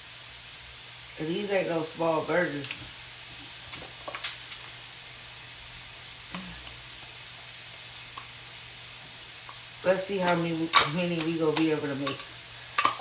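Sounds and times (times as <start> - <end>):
patties sizzling on griddle: 0.0 - 13.0.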